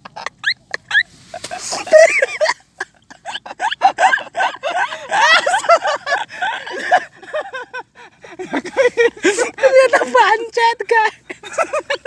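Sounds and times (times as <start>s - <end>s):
people laughing and giggling: 0.0s - 10.2s, 10.9s - 12.0s.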